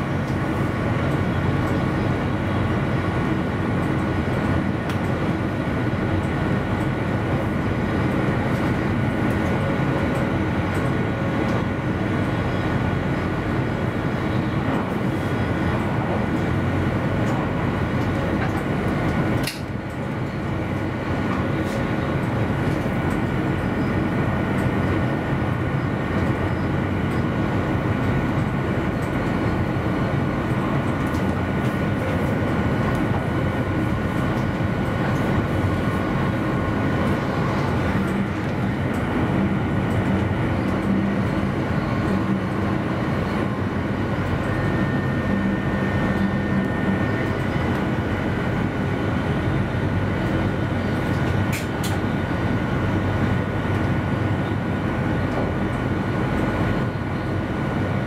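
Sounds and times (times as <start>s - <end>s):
faint constant whine: 0.0s - 58.0s
train rumble and hiss: 0.0s - 58.0s.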